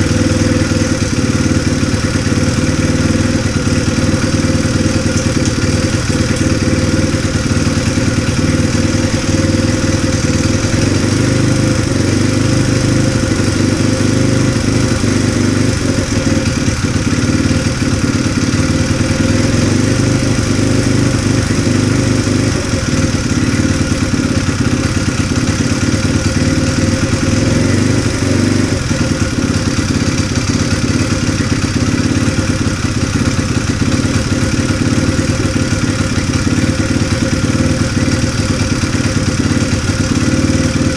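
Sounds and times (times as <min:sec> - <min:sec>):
engine idling with clatter: 0:00.0 - 0:40.9.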